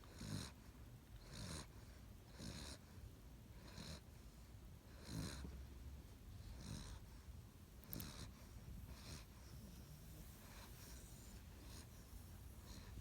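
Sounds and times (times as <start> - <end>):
puppy snoring: 0.0 - 4.2, 4.8 - 5.6, 6.4 - 7.2, 7.8 - 13.0.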